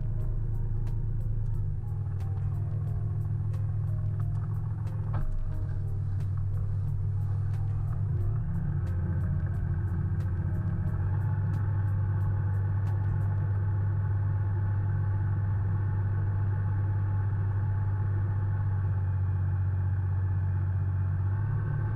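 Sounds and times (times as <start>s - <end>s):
diesel engine running at low revs: 0.0s - 21.9s.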